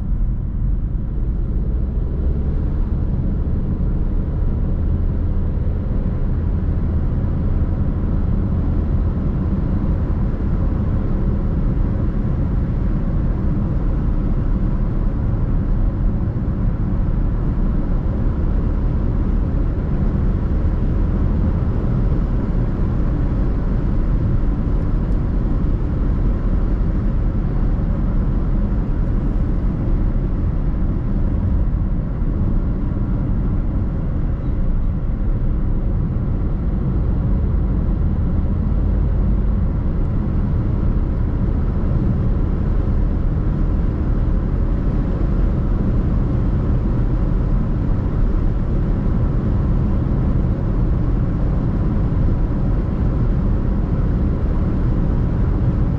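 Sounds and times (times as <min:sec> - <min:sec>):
car driving road noise: 0:00.0 - 0:55.9.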